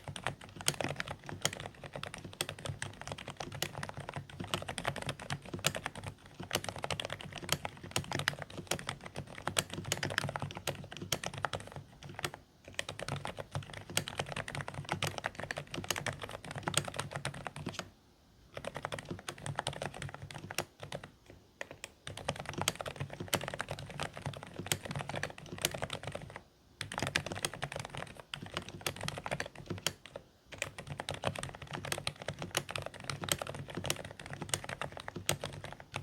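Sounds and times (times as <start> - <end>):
fast typing on mechanical keyboard: 0.0 - 17.9, 18.5 - 36.0.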